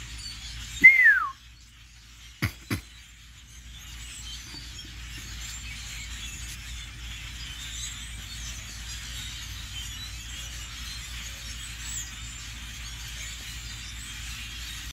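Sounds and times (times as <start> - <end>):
flock of birds chattering: 0.0 - 14.9.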